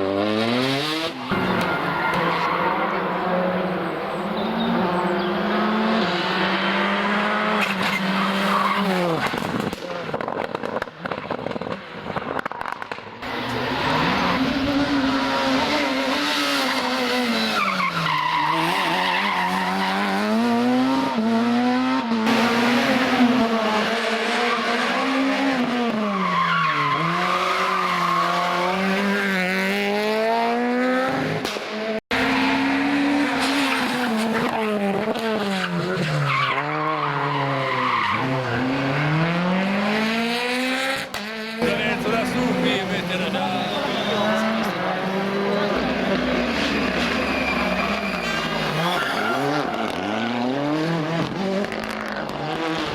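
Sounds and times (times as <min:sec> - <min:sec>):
rally car engines at full throttle: 0:00.0 - 0:52.9.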